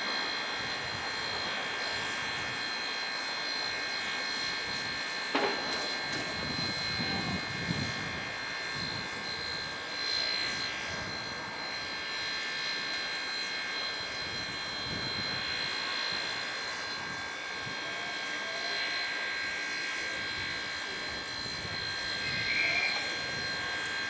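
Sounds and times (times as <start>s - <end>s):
high whining tones: 0.0s - 24.0s.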